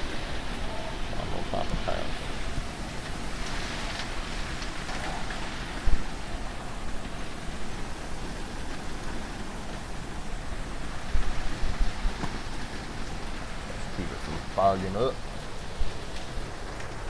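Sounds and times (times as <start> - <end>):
hurricane wind and rain: 0.0 - 17.0.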